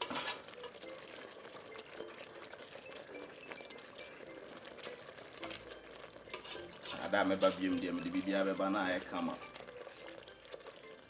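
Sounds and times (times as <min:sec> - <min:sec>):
sauce simmering and bubbling: 0:00.0 - 0:11.0
wooden spatula stirring: 0:00.0 - 0:11.0.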